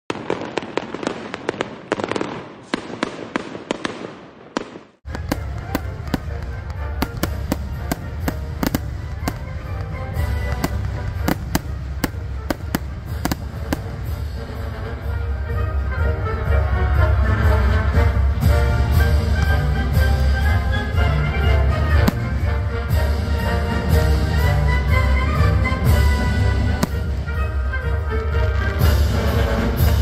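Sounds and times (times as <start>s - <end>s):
fireworks crackling and popping: 0.1s - 30.0s.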